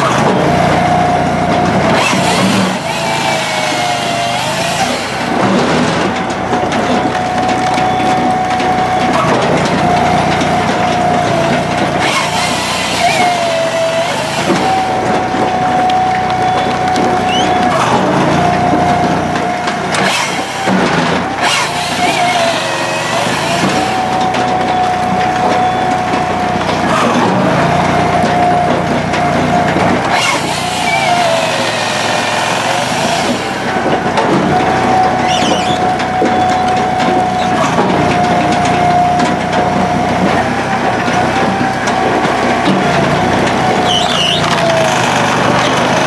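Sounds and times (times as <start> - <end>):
firewood processor engine humming: 0.0 - 46.0
saw cutting through log: 0.0 - 46.0.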